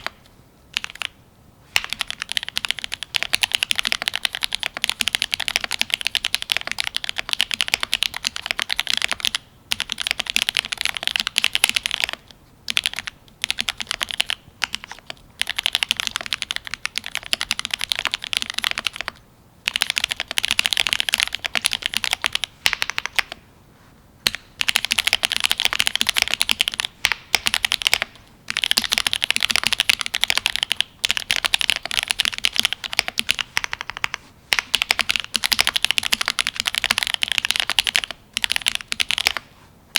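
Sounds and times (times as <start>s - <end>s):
fast typing on mechanical keyboard: 0.8s - 1.1s, 1.8s - 23.4s, 24.3s - 39.4s.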